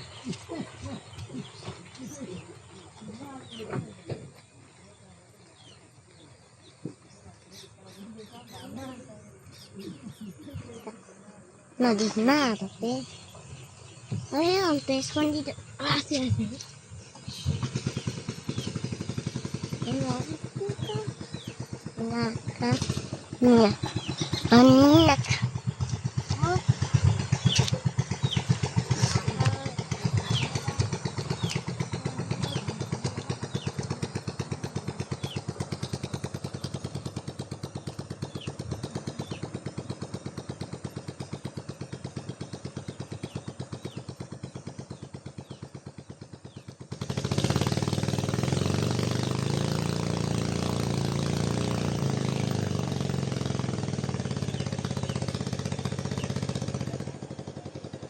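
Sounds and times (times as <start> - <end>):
louder fuller engine noise: 0.0 - 58.0
small engine running: 0.0 - 58.0.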